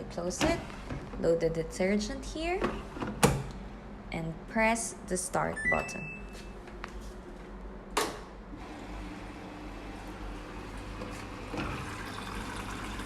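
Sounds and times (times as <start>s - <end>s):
washing machine low hum: 0.0s - 13.0s.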